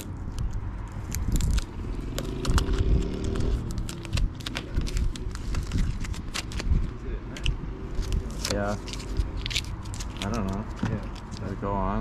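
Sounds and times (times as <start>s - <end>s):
tape peeling crackles: 0.0s - 11.6s.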